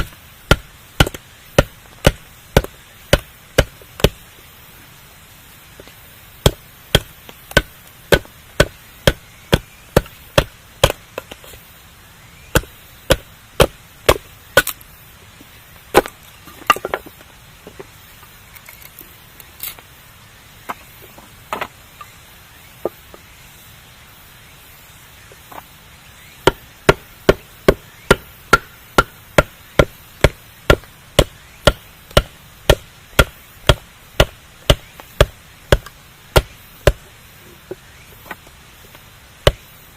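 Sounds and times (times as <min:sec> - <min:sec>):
faint steady fire hiss: 0:00.0 - 0:39.9.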